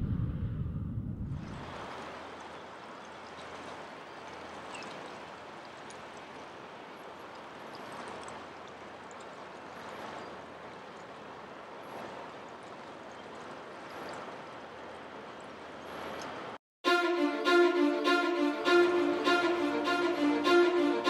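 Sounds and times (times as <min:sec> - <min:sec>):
river water lapping at bank: 0:01.4 - 0:21.0.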